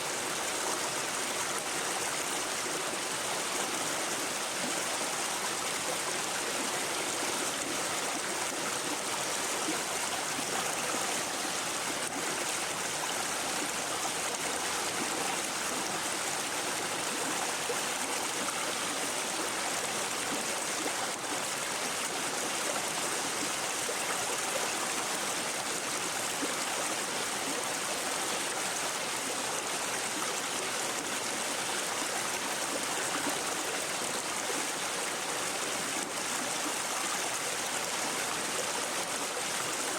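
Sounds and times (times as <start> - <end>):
stream burbling over stones: 0.0 - 39.9.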